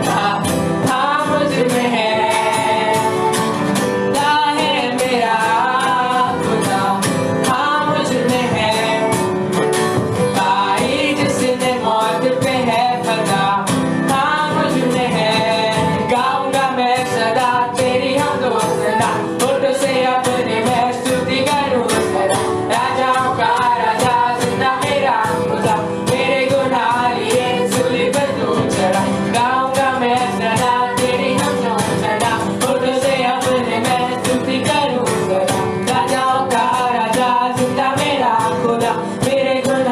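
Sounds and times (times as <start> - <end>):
people singing: 0.0 - 39.9
steady percussion beat: 0.0 - 39.9.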